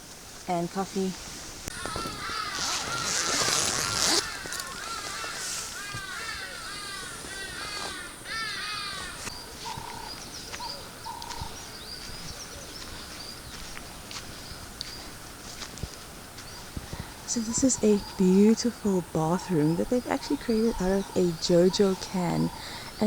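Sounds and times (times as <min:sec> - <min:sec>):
birds calling: 0:00.5 - 0:23.0.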